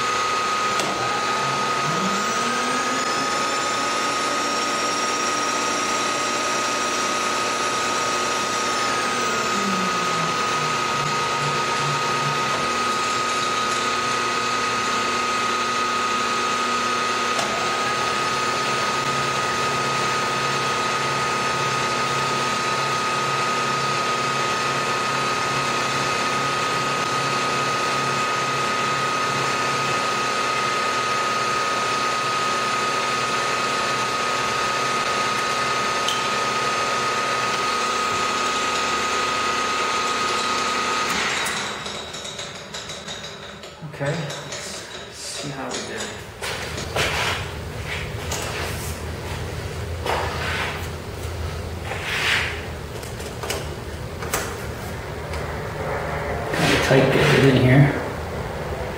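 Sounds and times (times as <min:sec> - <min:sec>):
milling machine spindle whine: 0:00.0 - 0:58.9.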